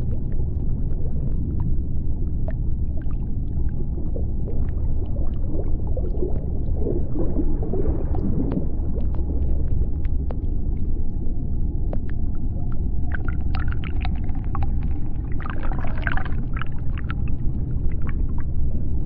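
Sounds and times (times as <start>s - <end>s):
bubbling gurgles: 0.0s - 19.0s
underwater low rumble: 0.0s - 19.0s.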